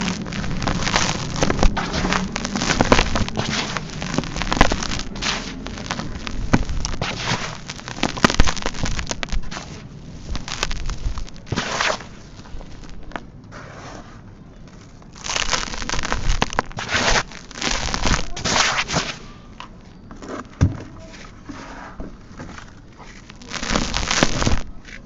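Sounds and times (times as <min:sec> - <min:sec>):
sand-cement chunks crumbling: 0:00.0 - 0:25.0.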